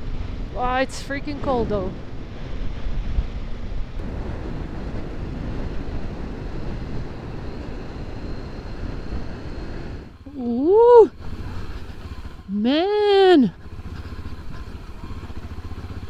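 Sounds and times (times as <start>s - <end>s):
wind buffeting microphone: 0.0s - 16.0s
motorcycle engine running: 1.4s - 16.0s.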